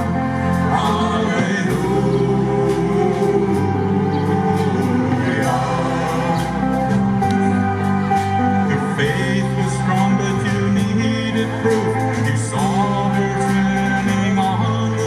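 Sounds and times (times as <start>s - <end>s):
drums steady beat: 0.0s - 15.0s
person singing: 0.0s - 15.0s
sustained bass notes: 0.0s - 15.0s.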